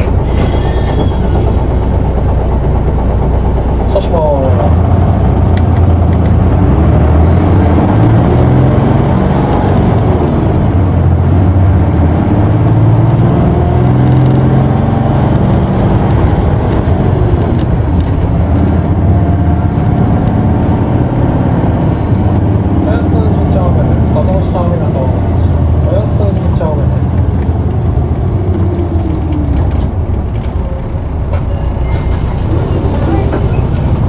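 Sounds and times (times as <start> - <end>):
bus diesel engine revving: 0.0 - 34.0.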